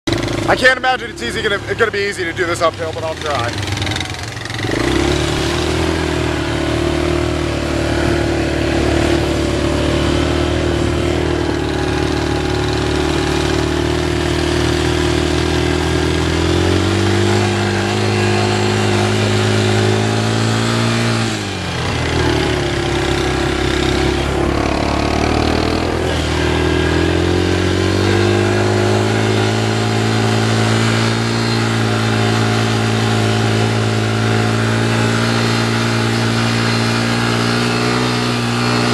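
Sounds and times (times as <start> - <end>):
atv engine revving uphill: 0.0 - 38.9.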